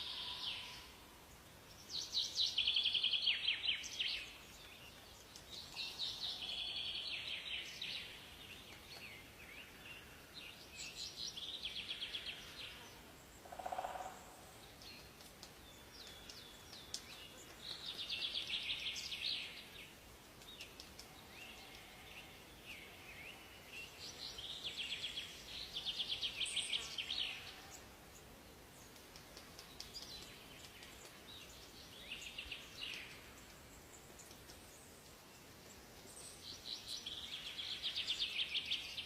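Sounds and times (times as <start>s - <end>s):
faint hiss: 0.0s - 39.0s
songbirds singing trills: 0.0s - 39.0s.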